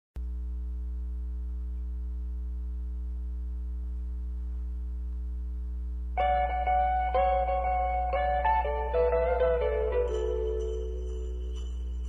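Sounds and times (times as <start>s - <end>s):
low electrical hum: 0.2s - 12.0s.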